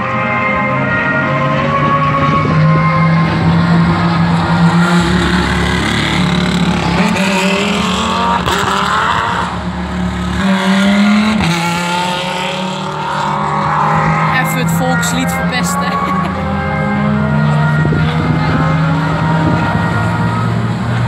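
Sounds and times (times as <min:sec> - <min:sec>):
race car accelerating: 0:00.0 - 0:21.0
race car engines running: 0:00.0 - 0:21.0
engine revving with gear change: 0:01.6 - 0:21.0.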